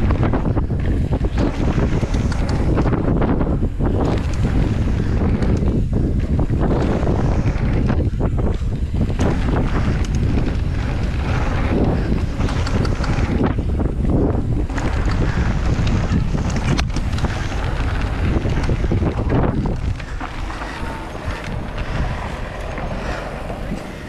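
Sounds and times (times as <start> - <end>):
bike clicks and knocks: 0.0 - 24.0
tyres on dirt: 0.0 - 24.0
wind rushing over microphone: 0.0 - 24.0.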